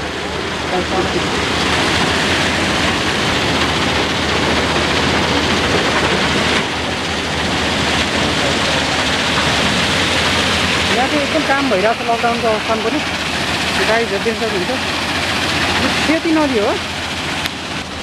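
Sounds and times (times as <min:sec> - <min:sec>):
low steady hum: 0:00.0 - 0:18.0
river rushing: 0:00.0 - 0:18.0.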